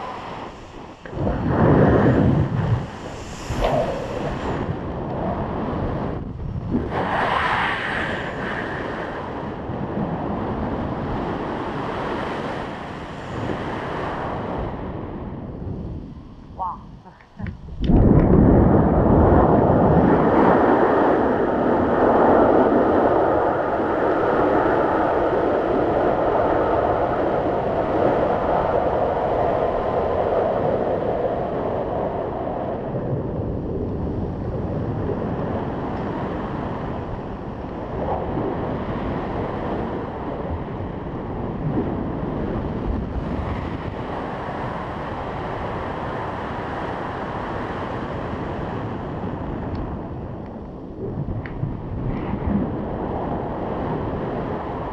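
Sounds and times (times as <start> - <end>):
wind rushing over microphone: 0.0 - 54.9.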